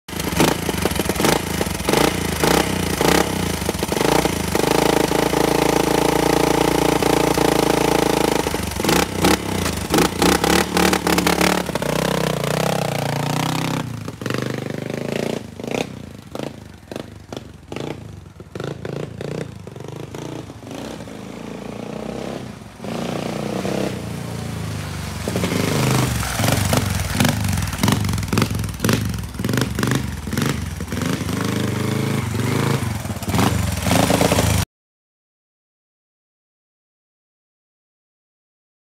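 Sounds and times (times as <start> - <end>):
dirt bike engine revving: 0.1 - 34.6.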